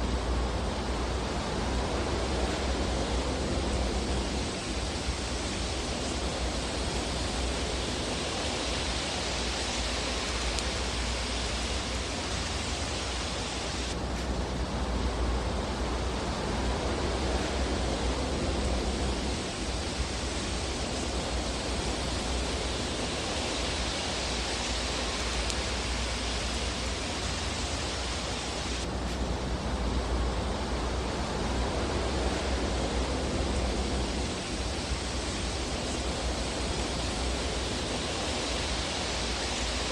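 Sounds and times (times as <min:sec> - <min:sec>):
fireplace rushing hiss: 0:00.0 - 0:39.9.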